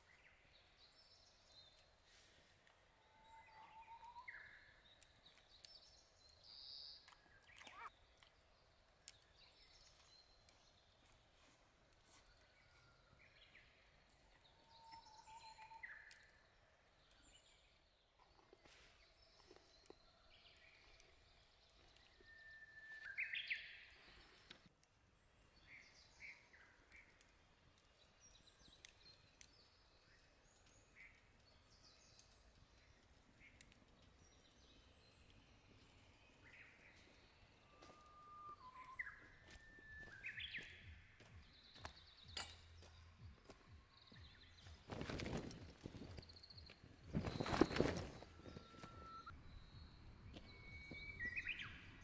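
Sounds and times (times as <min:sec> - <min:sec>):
faint birdsong: 0:00.0 - 0:52.0.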